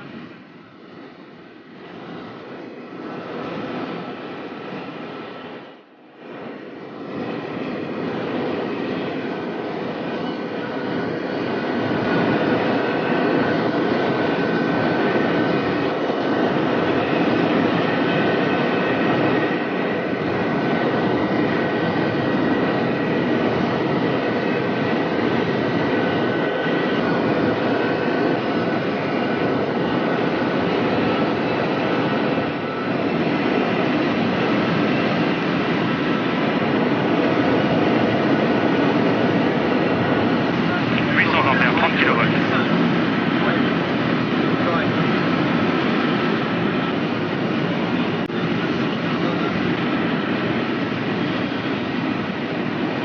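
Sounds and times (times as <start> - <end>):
high-speed train rushing: 0.0 - 53.0.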